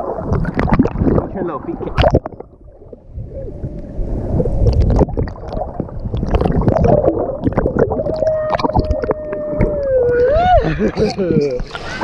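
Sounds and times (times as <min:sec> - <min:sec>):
muffled seawater sloshing: 0:00.0 - 0:12.0.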